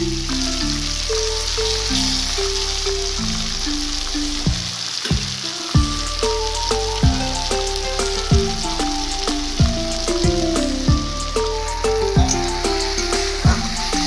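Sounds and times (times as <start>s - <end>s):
background music with deep beat: 0.0s - 14.0s
vegetables sizzling in oil: 0.0s - 14.0s.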